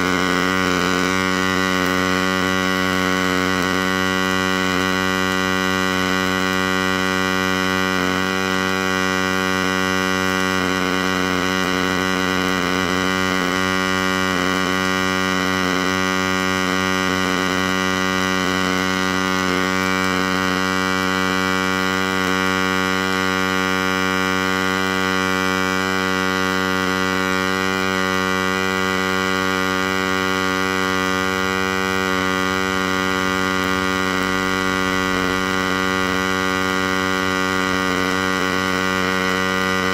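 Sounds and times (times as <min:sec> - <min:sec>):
welding arc electrical buzz: 0:00.0 - 0:39.9.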